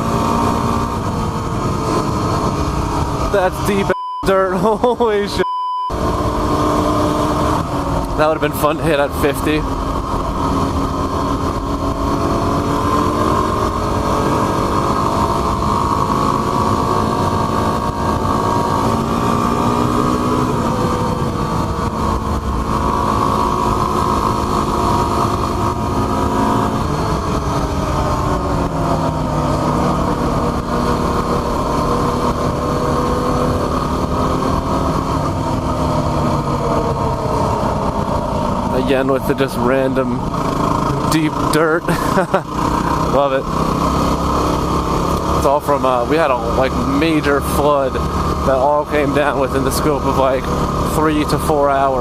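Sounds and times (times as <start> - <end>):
motorcycle engine running: 0.0 - 3.9, 5.9 - 52.0.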